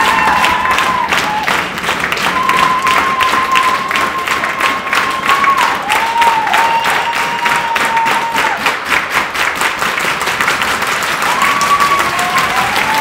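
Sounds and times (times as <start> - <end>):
audience clapping in rhythm: 0.0 - 13.0.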